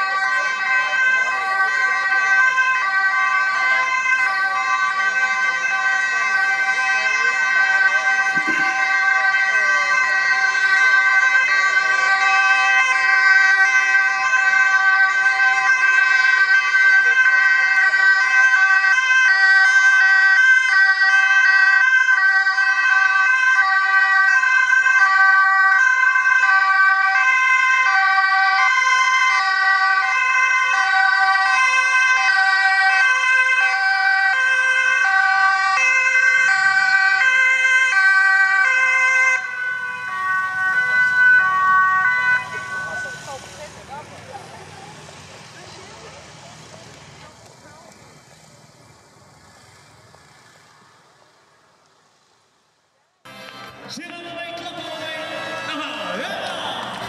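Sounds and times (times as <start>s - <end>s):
two-tone police sirens: 0.0s - 57.0s.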